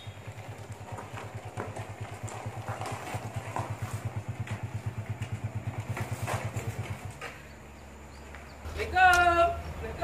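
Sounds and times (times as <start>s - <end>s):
motorcycle engine running slowly: 0.0s - 10.0s.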